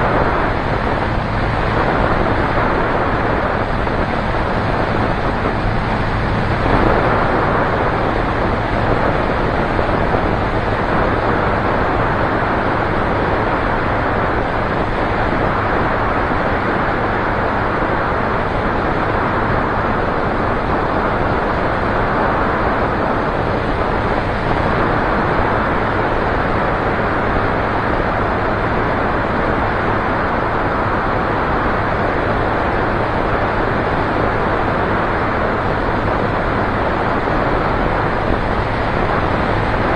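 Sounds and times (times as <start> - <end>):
light aircraft engine and propeller: 0.0 - 39.9
wind rush on microphone: 0.0 - 39.9.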